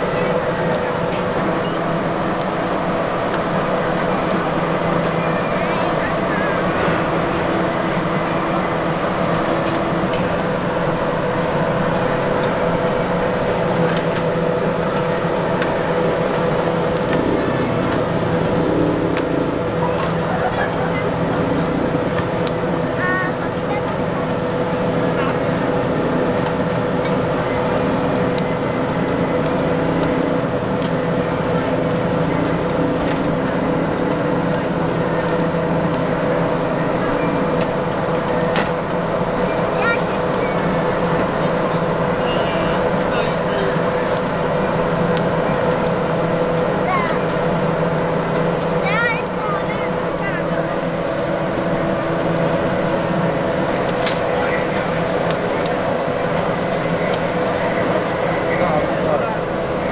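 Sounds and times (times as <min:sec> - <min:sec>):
faint voices: 0:00.0 - 0:59.9
gas grill hissing: 0:00.0 - 0:59.9
machine hum with constant tones: 0:00.0 - 0:59.9
noisy rush: 0:00.0 - 0:59.9.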